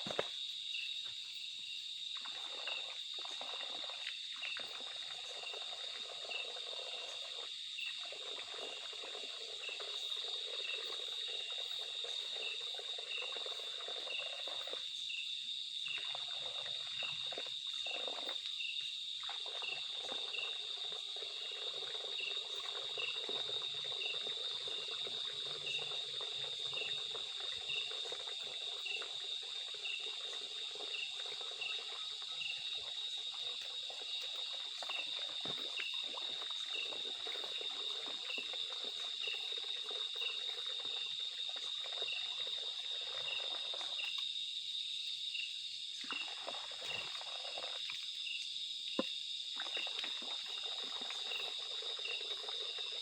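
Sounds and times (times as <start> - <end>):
insect chirping: 0.0 - 53.0.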